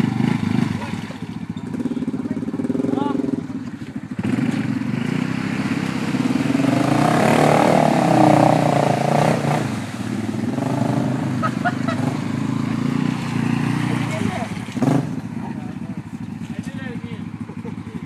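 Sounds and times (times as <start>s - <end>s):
four-wheeler engines revving: 0.0s - 18.0s.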